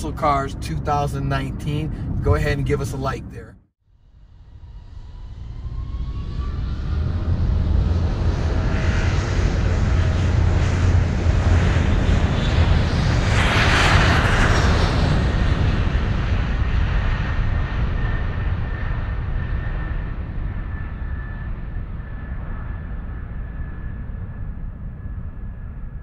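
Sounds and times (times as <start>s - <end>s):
airplane engines rumbling: 0.0s - 3.6s, 4.2s - 26.0s.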